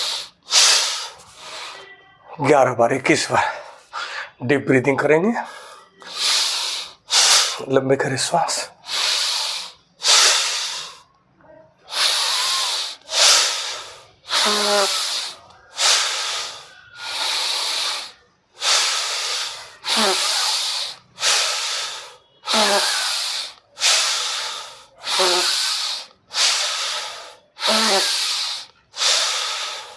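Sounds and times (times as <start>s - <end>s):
person breathing deeply: 0.0s - 1.8s, 5.4s - 7.7s, 8.8s - 11.1s, 11.9s - 29.9s.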